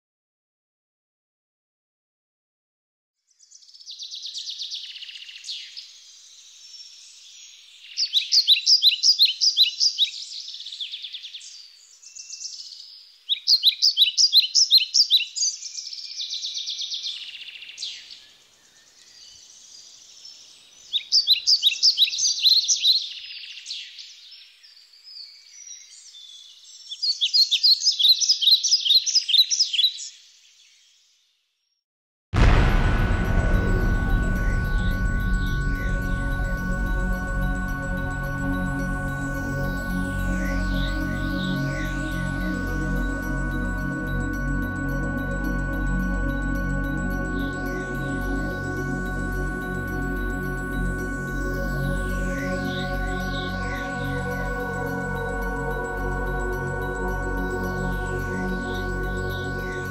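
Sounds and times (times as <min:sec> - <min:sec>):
songbird singing: 0:03.3 - 0:31.2, 0:35.2 - 0:59.9.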